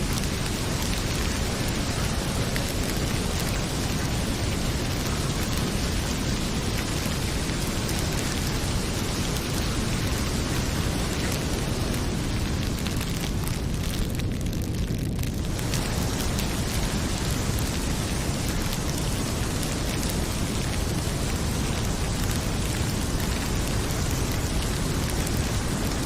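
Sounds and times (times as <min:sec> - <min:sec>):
heavy rain falling: 0:00.0 - 0:26.0
wood fire crackling: 0:00.0 - 0:26.0.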